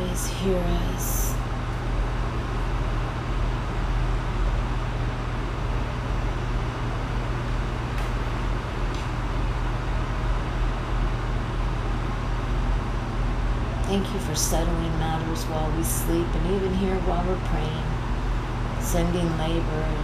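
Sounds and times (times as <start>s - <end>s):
low hum and rumble: 0.0s - 20.0s.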